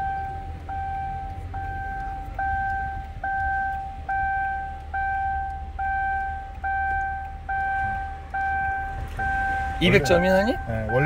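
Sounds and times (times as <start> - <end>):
car warning chime dinging: 0.0 - 11.0.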